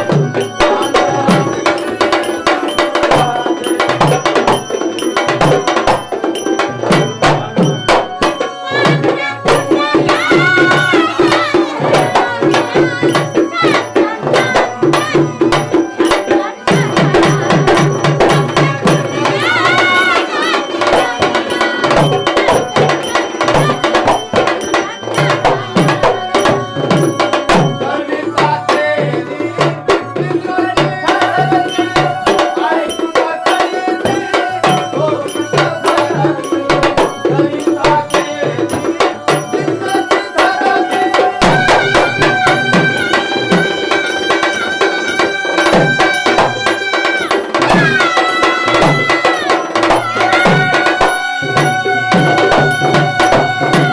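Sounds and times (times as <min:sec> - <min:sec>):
hand drum quick rhythm: 0:00.0 - 0:53.9.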